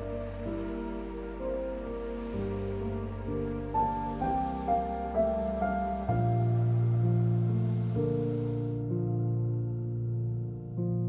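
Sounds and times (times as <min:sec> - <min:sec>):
slow melody over low chords: 0:00.0 - 0:11.0.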